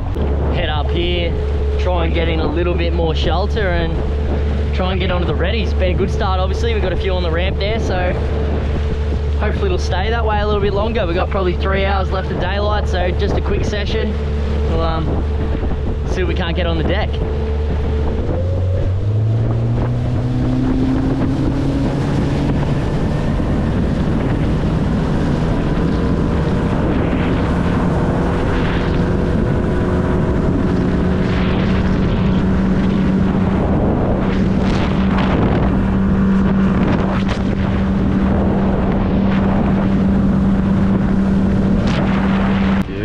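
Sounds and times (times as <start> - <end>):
outboard motor accelerating: 0.0 - 43.0
wind buffeting microphone: 0.0 - 43.0.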